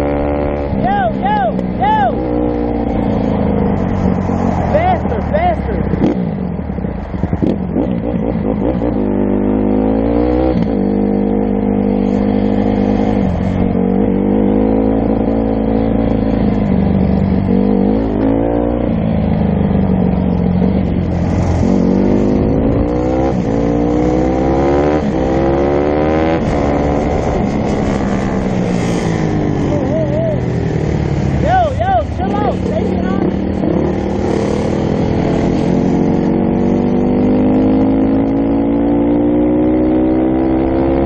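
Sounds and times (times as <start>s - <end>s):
dirt bike engine accelerating: 0.0s - 41.0s.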